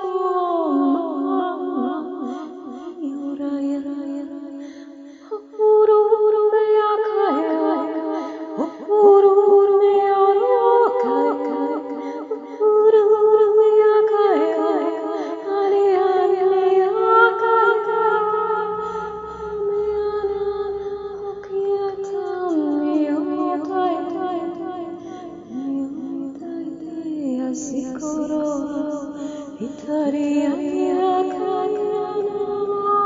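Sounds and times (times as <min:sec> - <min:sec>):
woman singing wordless lullaby: 0:00.0 - 0:33.0.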